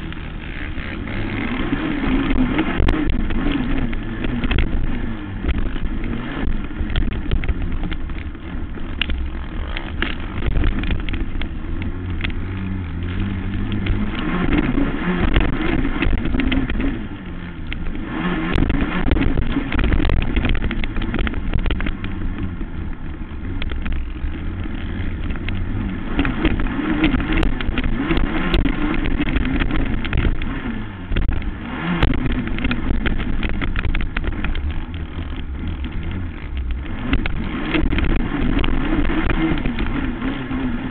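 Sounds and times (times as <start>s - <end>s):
crackle of knocks and rattles: 0.0s - 40.9s
quad engine revving: 0.0s - 40.9s.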